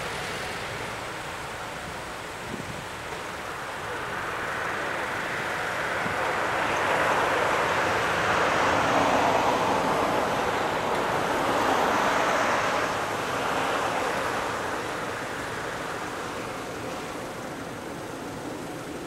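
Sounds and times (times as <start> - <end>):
jet engine roar: 3.4 - 19.0.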